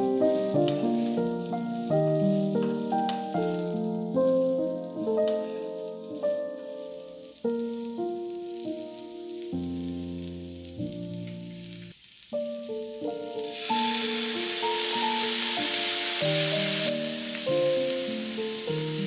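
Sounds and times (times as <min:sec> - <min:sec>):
sauce sizzling in a hot wok: 0:00.0 - 0:19.0.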